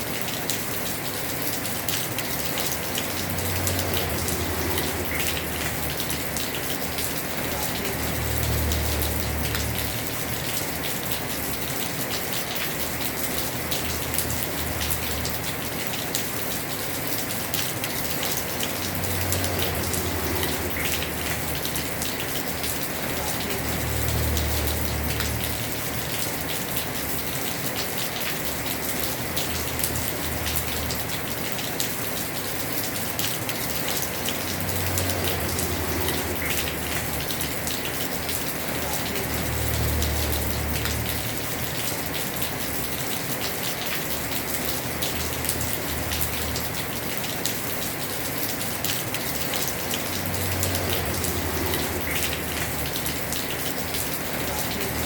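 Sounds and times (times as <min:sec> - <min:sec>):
heavy rain on roof: 0:00.0 - 0:55.0.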